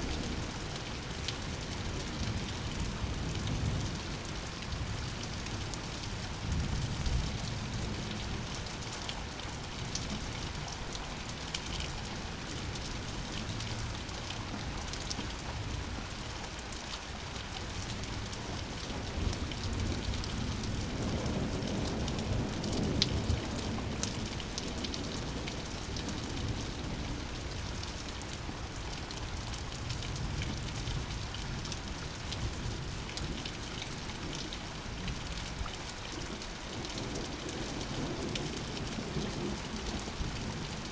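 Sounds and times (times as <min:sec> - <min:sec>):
raindrops ticking close by: 0:00.0 - 0:40.9
steady rain falling: 0:00.0 - 0:40.9.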